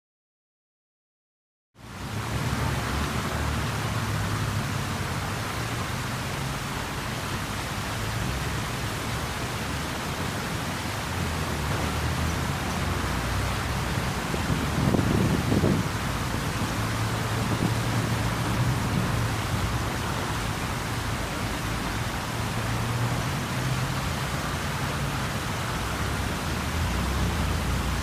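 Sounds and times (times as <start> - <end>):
fountain jets splashing: 1.8 - 28.0
passing traffic: 1.8 - 28.0.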